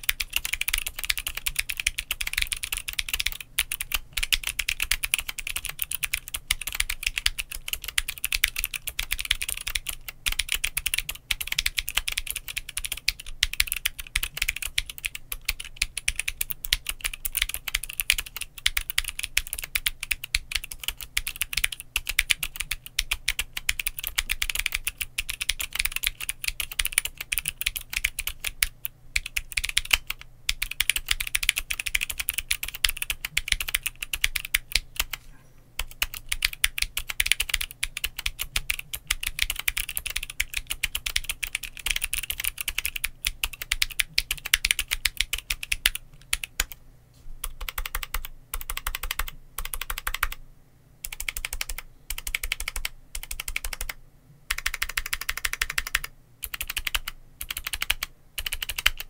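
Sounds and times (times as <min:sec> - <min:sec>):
fast clicky keyboard typing: 0:00.0 - 0:35.2, 0:35.8 - 0:46.8, 0:47.4 - 0:50.4, 0:51.0 - 0:59.0.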